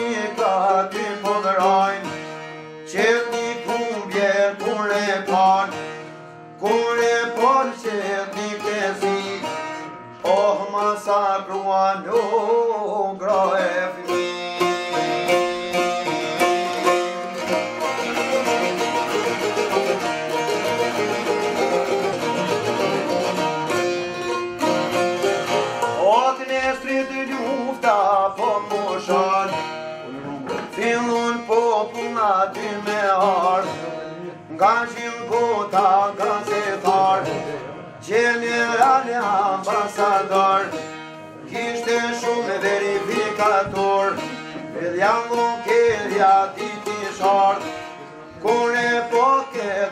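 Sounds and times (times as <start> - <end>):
plucked lute folk music: 0.0 - 49.9.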